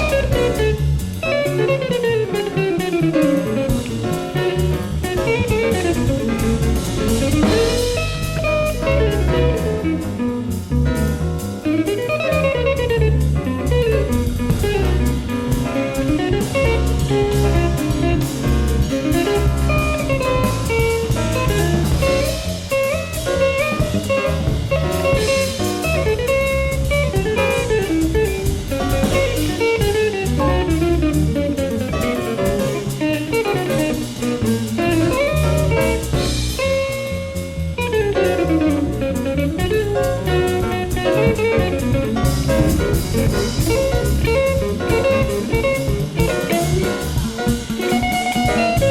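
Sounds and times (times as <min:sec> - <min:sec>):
drums and cymbals: 0:00.0 - 0:48.9
jazz guitar: 0:00.0 - 0:48.9
walking bass: 0:00.0 - 0:48.9.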